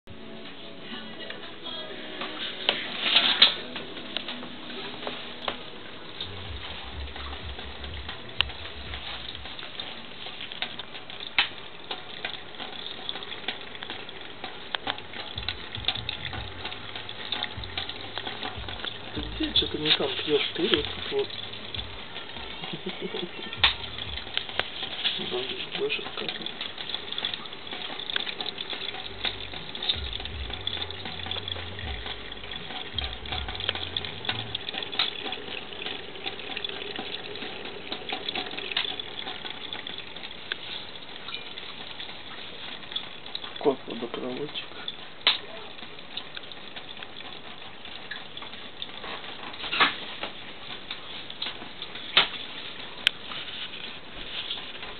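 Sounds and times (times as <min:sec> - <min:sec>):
tap water running into sink: 0:02.2 - 0:54.9
cat drinking: 0:02.3 - 0:54.9.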